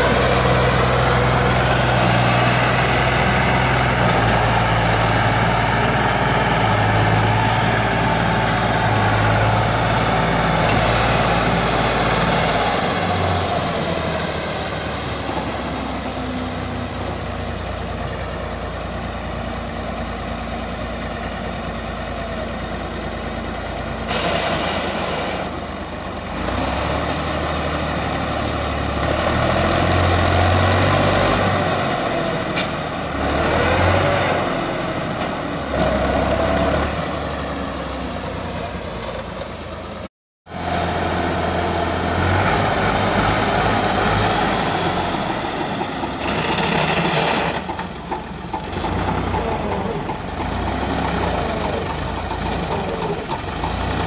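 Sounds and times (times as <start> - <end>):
tractor diesel engine straining: 0.0 - 54.0.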